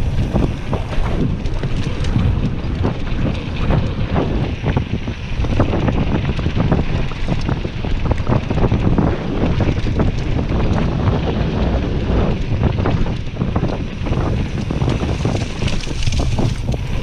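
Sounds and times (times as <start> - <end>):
bike rattling and clicking: 0.0 - 17.0
tyres rumbling on dirt trail: 0.0 - 17.0
wind buffeting microphone: 0.0 - 17.0.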